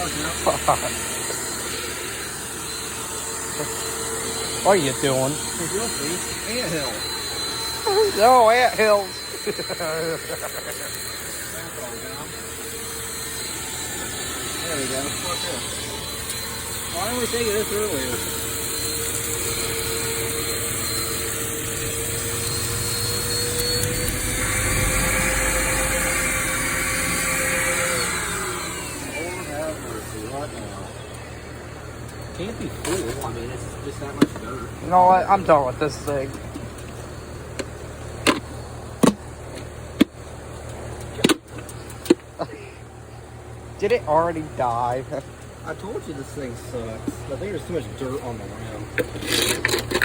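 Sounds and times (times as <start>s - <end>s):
steady low hum: 0.0s - 50.0s
vacuum cleaner running: 0.0s - 50.0s.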